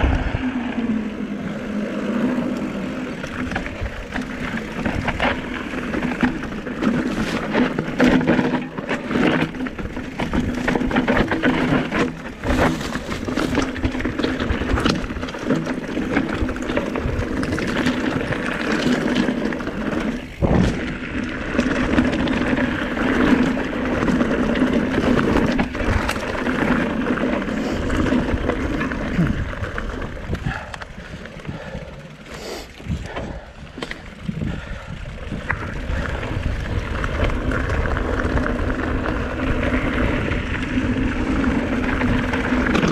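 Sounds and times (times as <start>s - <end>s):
bike frame and chain rattling: 0.0s - 42.9s
tyres crunching over dirt and stones: 1.6s - 42.9s.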